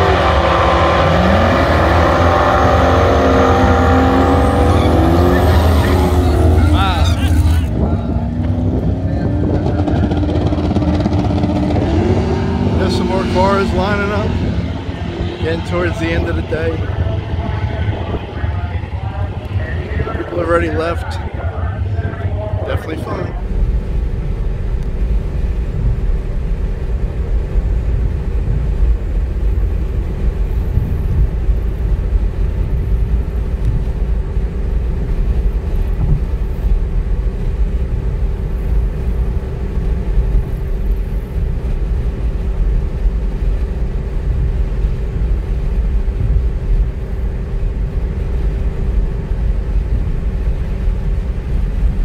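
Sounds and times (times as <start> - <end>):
car road rumble: 0.0 - 52.0.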